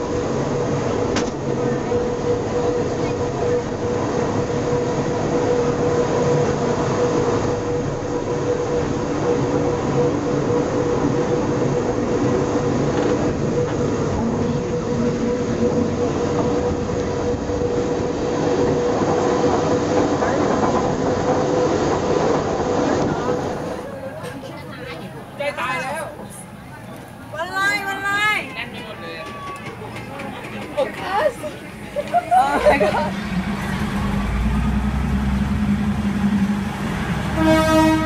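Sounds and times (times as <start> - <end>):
railway car running with whine: 0.0 - 38.0.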